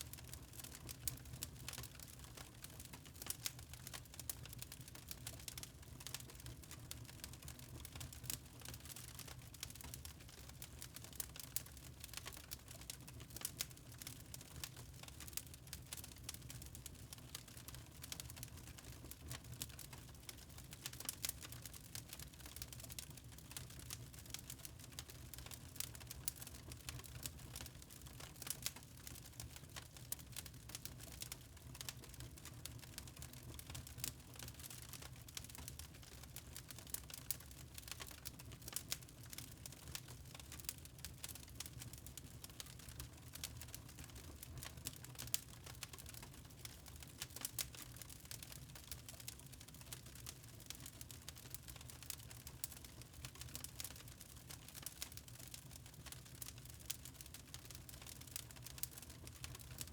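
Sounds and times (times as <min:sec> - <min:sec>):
fire crackling in a fireplace: 0:00.0 - 0:59.9.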